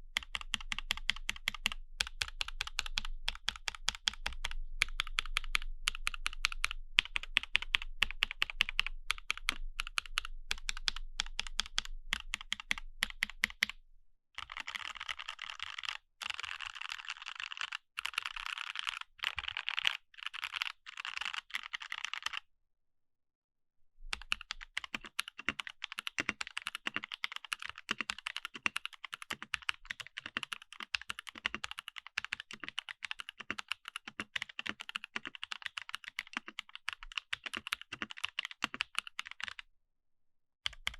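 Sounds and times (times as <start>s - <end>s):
fast typing on mechanical keyboard: 0.1s - 13.7s, 14.4s - 22.4s, 24.2s - 39.6s, 40.7s - 40.9s.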